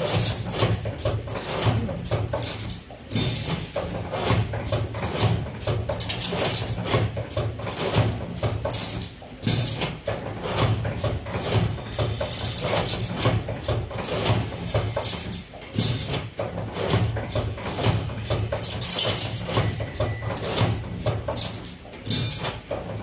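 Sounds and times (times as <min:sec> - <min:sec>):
rapid clicking and rattling: 0:00.0 - 0:23.0
wire bending machine humming: 0:00.0 - 0:23.0.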